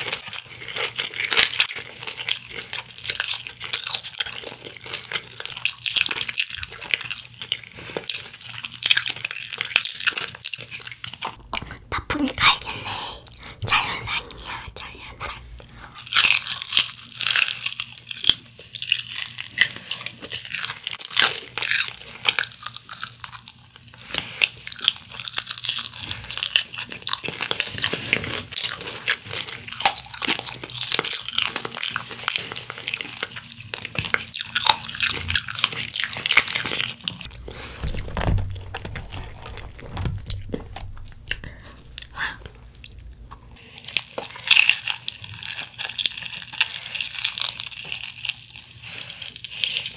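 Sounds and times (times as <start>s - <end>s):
crunching and chewing fried chicken: 0.0s - 11.8s, 13.2s - 49.9s.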